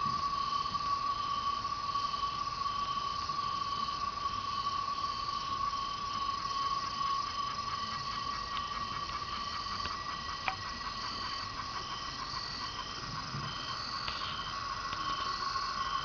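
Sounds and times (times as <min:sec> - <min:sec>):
cicadas humming: 0:00.0 - 0:16.0
insects calling in pulses: 0:00.0 - 0:16.0.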